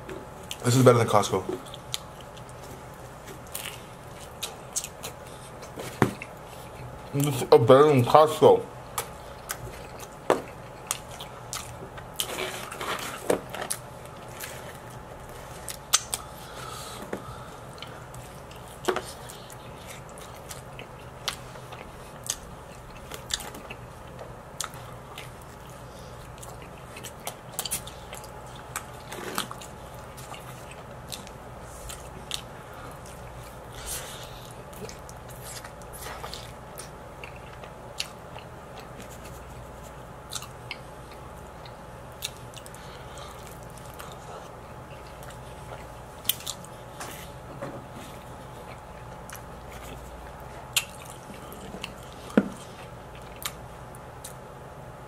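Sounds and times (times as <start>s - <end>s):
low steady hum: 0.0s - 55.0s
chewing and biting pizza: 0.3s - 7.4s, 8.9s - 54.6s.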